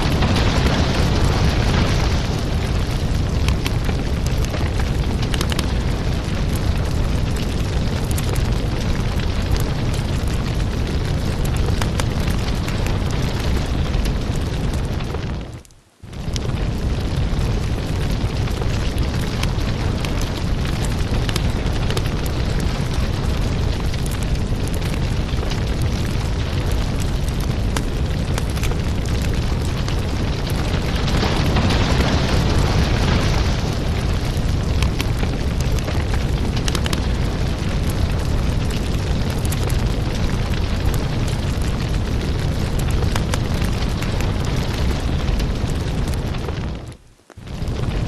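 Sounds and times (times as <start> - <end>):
fire hissing: 0.0 - 48.0
firewood burning with crackles: 0.0 - 48.0.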